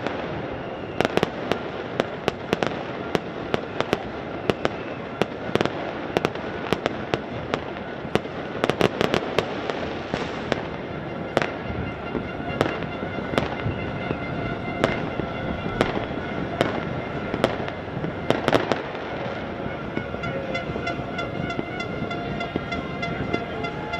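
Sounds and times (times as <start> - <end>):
fireworks crackling and banging: 0.0 - 23.9.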